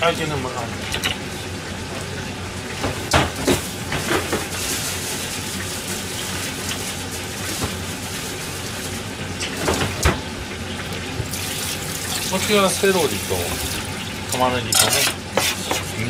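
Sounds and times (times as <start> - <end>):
steady kitchen hiss: 0.0 - 16.0.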